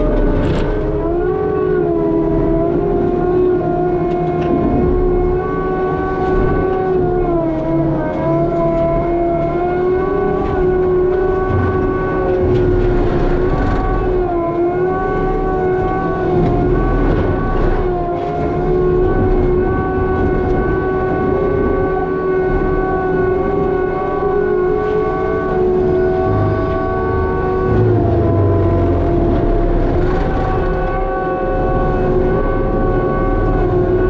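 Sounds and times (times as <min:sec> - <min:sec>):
loader engine: 0:00.0 - 0:34.0
mulcher drum whining: 0:00.0 - 0:34.0.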